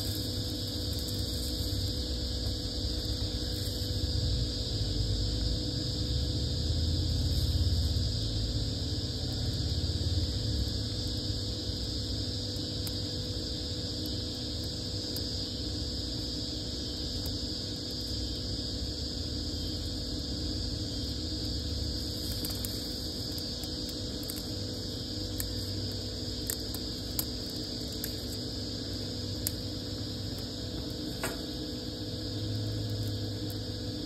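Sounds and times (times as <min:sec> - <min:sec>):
crackling twig fire: 0:00.0 - 0:34.0
machine hum with high whine: 0:00.0 - 0:34.0.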